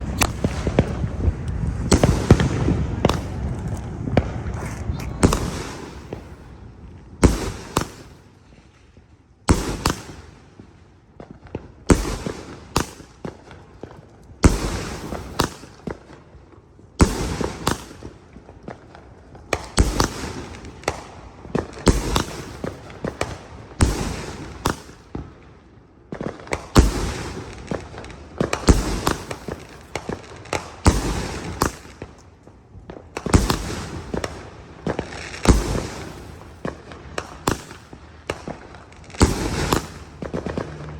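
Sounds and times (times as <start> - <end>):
firework cake firing: 0.0 - 40.9.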